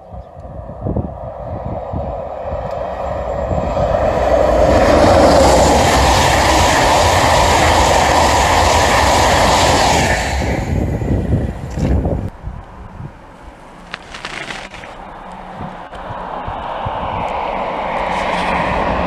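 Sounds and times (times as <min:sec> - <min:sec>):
train passing at speed: 0:00.3 - 0:11.7, 0:15.0 - 0:19.0.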